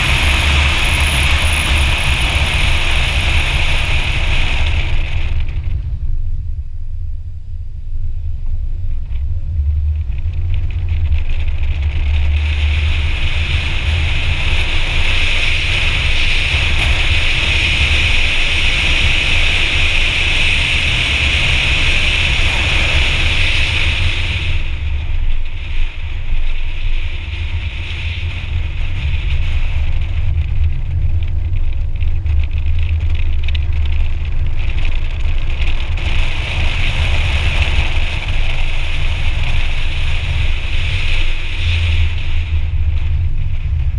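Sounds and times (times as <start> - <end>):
road noise rumble: 0.0 - 43.9
wind buffeting: 0.0 - 43.9.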